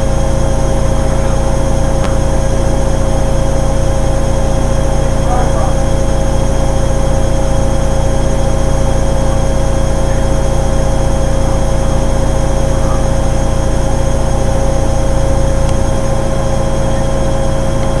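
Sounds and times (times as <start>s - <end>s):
motor whine: 0.0s - 18.0s
washing machine rumble: 0.0s - 18.0s.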